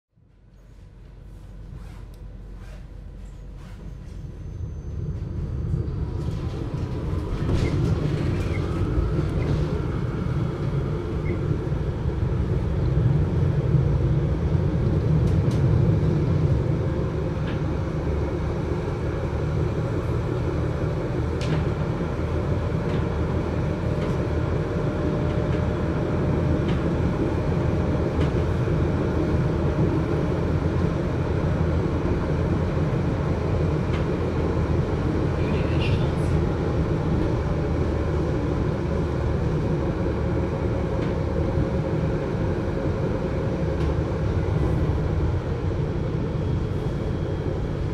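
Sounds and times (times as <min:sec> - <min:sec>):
tram rumbling: 0:00.1 - 0:47.9.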